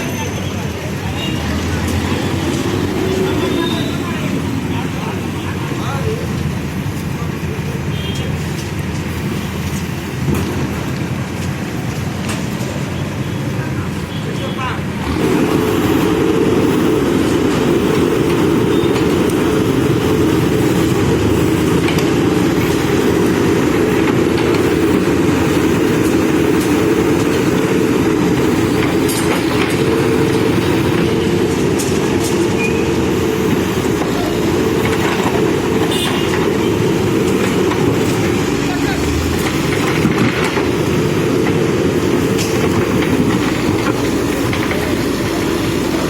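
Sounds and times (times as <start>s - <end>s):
diesel engine running under load: 0.0s - 46.0s.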